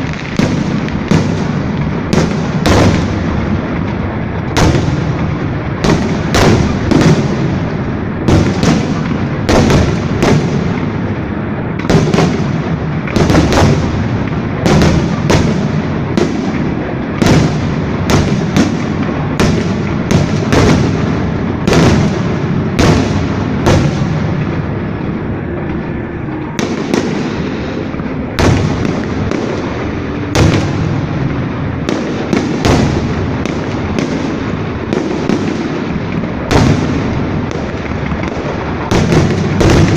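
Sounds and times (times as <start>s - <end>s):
fireworks bangs: 0.0s - 39.9s
fireworks rumble and crackle: 0.0s - 39.9s.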